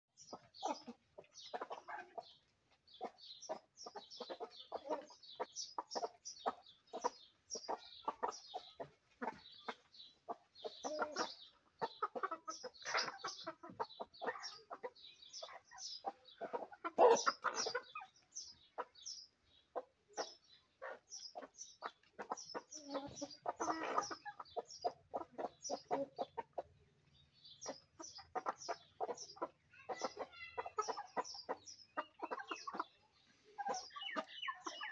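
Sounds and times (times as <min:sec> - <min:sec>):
hens clucking: 0:00.1 - 0:34.9.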